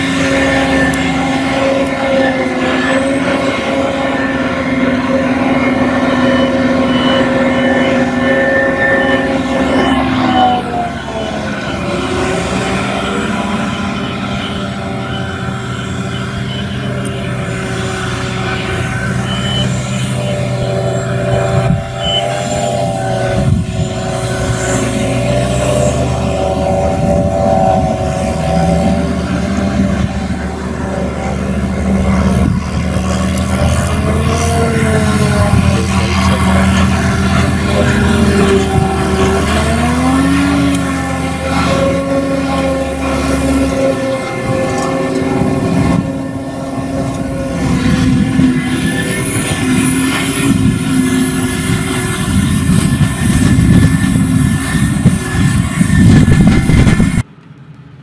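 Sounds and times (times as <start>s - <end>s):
forage harvester diesel engine: 0.0s - 58.0s
high whine: 0.0s - 58.0s
tractor engine pulling wagon: 0.0s - 58.0s.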